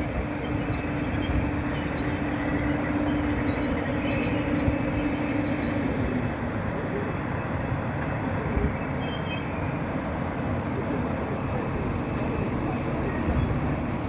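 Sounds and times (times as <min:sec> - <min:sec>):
train rumbling by: 0:00.0 - 0:14.0.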